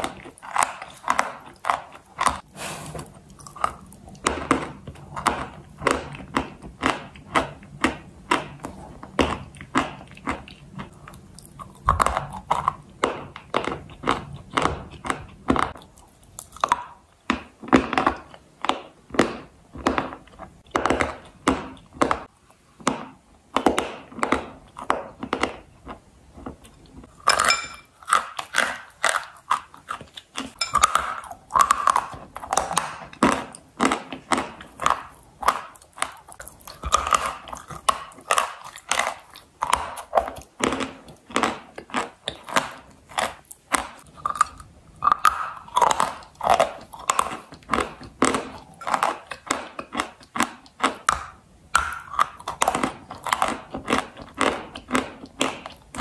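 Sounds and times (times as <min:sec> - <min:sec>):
chewing crunchy clay: 0:00.0 - 0:56.0.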